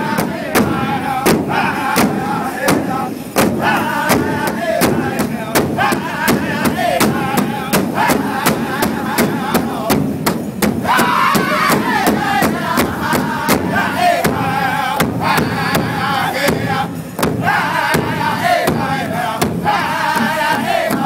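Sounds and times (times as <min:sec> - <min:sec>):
drum group singing: 0:00.0 - 0:21.0
steady drumbeat: 0:00.0 - 0:21.0.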